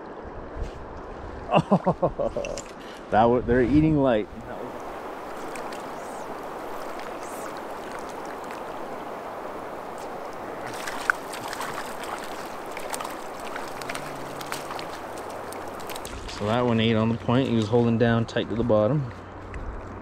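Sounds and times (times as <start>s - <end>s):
river water flowing: 3.8s - 20.0s.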